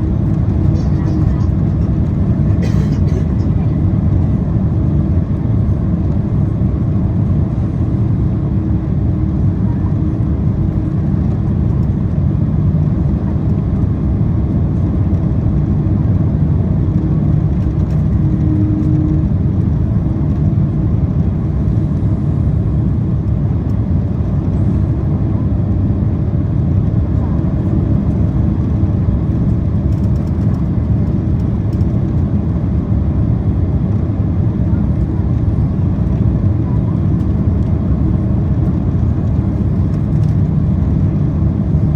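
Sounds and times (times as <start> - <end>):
airplane cabin engine roar: 0.0 - 41.9.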